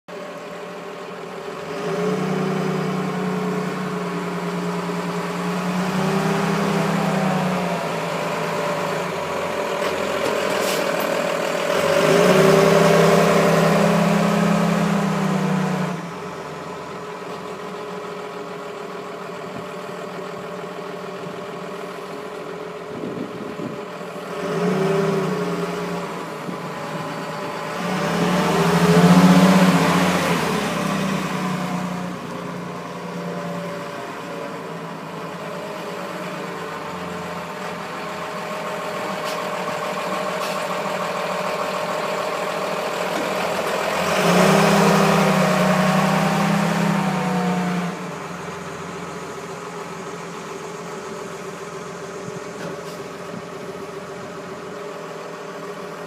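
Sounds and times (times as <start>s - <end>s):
diesel engine running: 0.1s - 56.0s.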